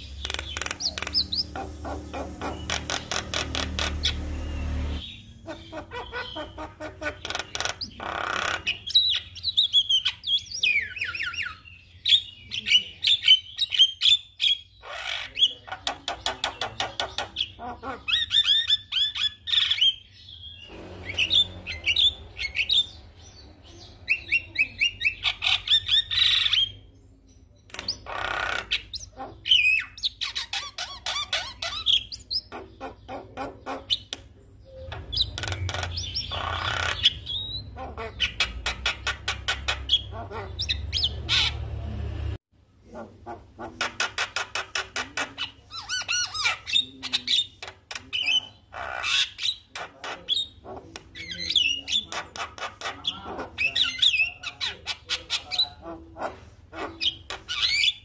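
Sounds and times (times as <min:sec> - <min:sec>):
bird chattering song: 0:00.0 - 0:42.0, 0:42.9 - 0:58.0.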